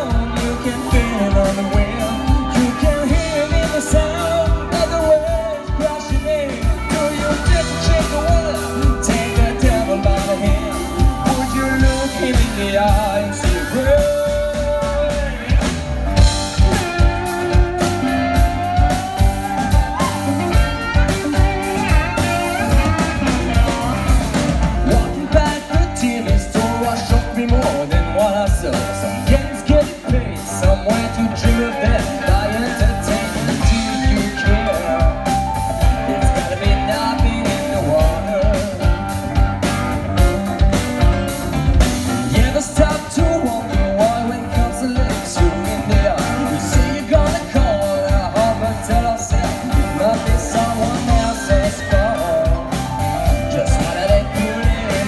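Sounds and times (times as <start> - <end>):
person singing: 0.0 - 41.1, 42.1 - 55.0
guitar: 0.0 - 55.0
steady drum beat: 0.0 - 55.0.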